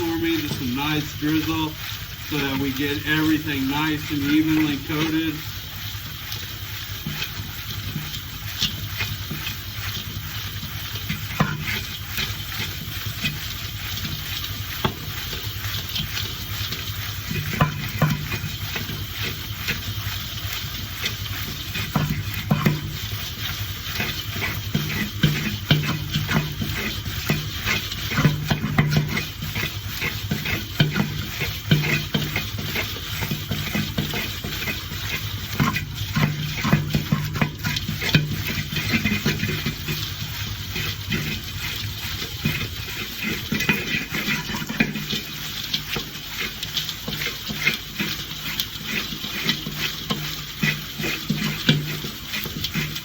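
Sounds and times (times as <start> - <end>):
popcorn stirred in a bowl: 0.0 - 53.0.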